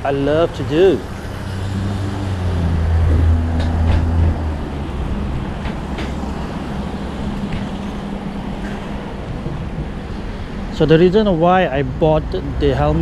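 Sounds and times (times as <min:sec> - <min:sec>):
road traffic engine rumble: 0:00.0 - 0:13.0.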